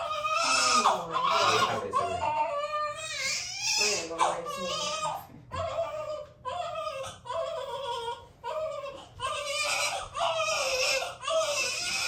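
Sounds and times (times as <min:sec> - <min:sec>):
newborn baby crying: 0:00.0 - 0:12.0.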